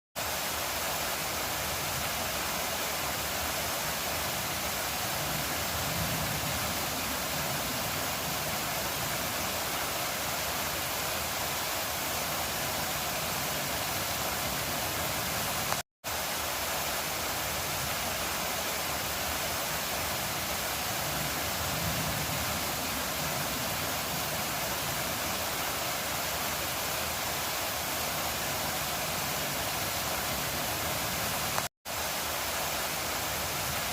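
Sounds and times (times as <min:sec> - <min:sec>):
waterfall roaring: 0:00.2 - 0:33.9.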